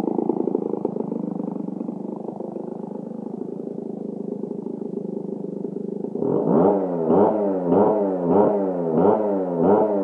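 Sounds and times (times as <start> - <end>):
chainsaw idling: 0.0 - 10.0
chainsaw throttle revving: 0.0 - 10.0.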